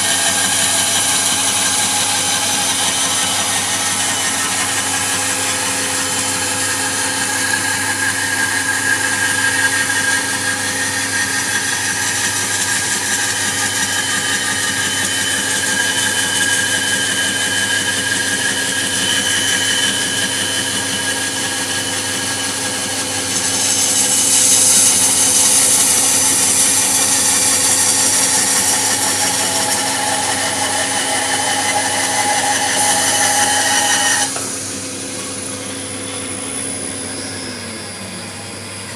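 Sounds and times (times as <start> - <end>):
small motor and saw whining: 0.0 - 38.9.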